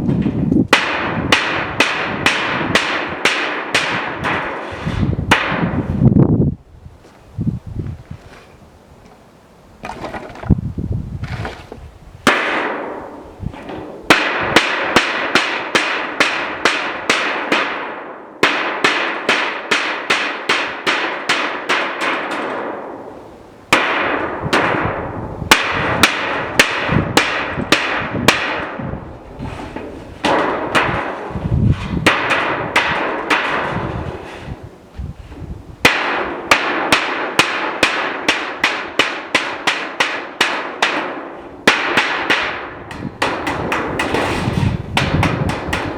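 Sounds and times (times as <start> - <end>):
hammer blows: 0.0 - 6.3, 12.2 - 45.9.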